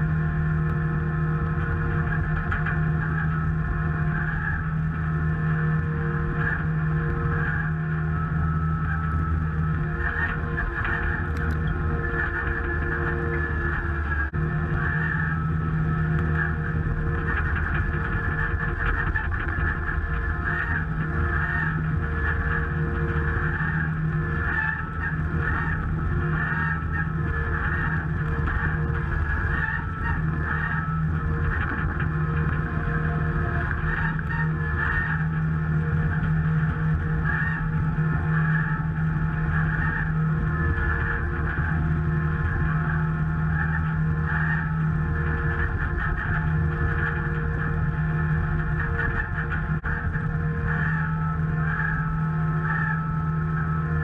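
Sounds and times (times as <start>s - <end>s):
rhythmic high pulsing: 0.0s - 54.0s
tracked machine engine droning: 0.0s - 54.0s.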